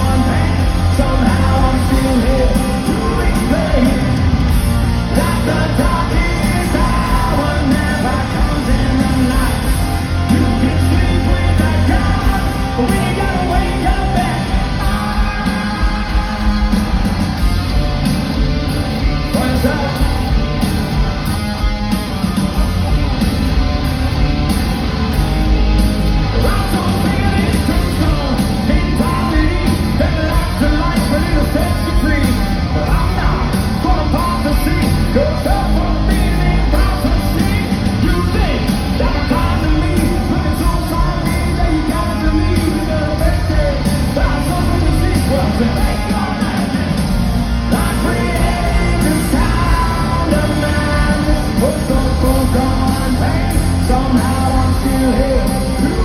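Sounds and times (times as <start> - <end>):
yelled and sung vocals: 0.0 - 23.2, 24.8 - 56.0
bass guitar: 0.0 - 56.0
distorted electric guitars: 0.0 - 56.0
drums: 0.0 - 56.0.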